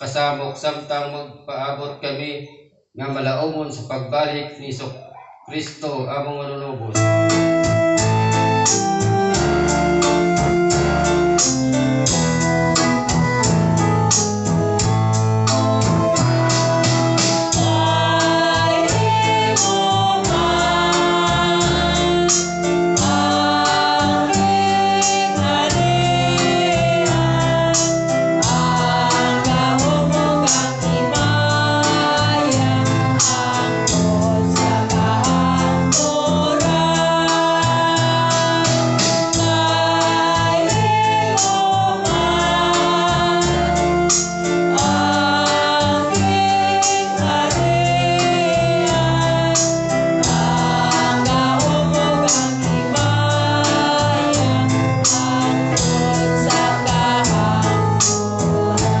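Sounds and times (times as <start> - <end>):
keyboard accompaniment: 2.0 - 59.0
voices singing a hymn: 6.9 - 14.2, 14.8 - 59.0.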